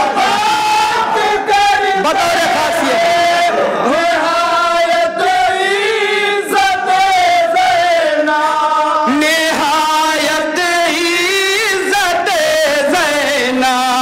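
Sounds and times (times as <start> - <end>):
men singing in chorus: 0.0 - 14.0.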